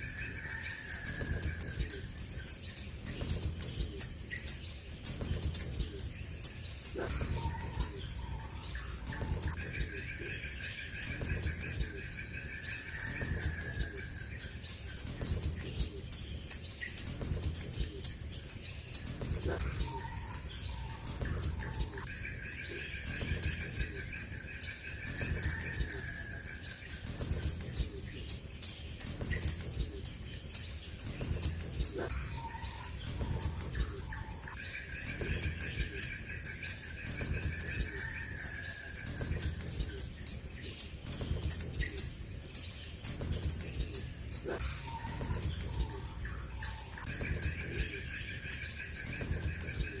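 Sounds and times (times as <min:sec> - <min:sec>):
bird high-pitched chirps: 0:00.0 - 0:50.0.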